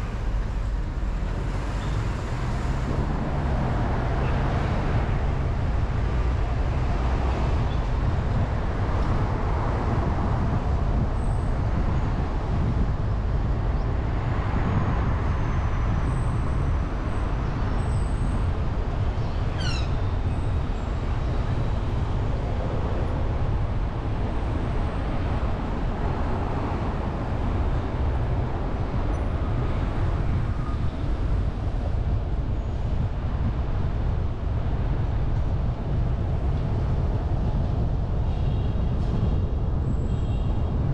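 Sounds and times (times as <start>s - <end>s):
car tyres and engine rumble: 0.0s - 40.9s.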